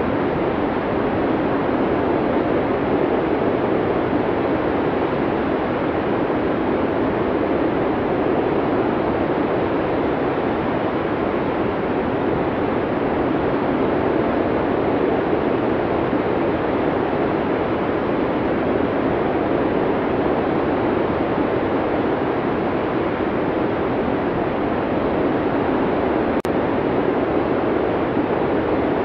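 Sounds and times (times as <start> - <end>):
blizzard wind rushing: 0.0 - 29.0.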